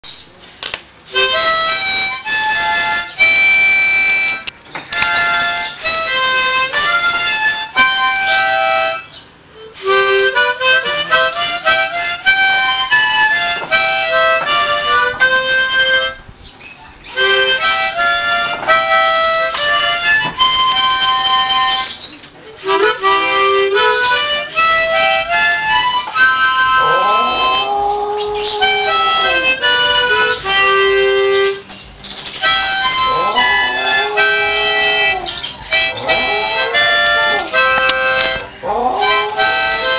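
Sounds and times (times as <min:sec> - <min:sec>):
harmonica playing: 0:01.1 - 0:16.3, 0:17.1 - 0:31.7, 0:32.3 - 0:39.9.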